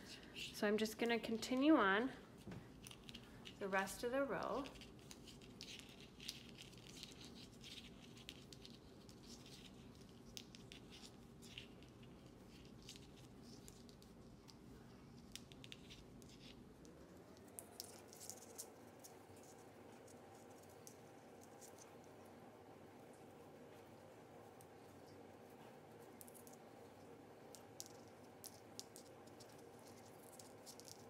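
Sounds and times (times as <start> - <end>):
low room hiss: 0.0 - 31.0.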